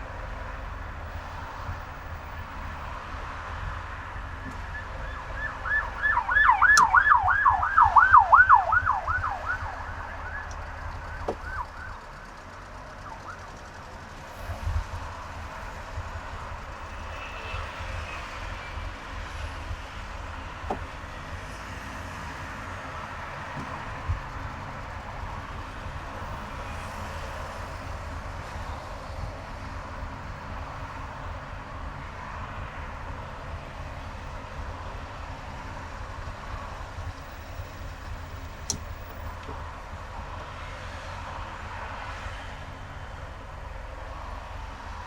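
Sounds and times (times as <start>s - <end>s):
car driving on highway: 0.0s - 45.0s.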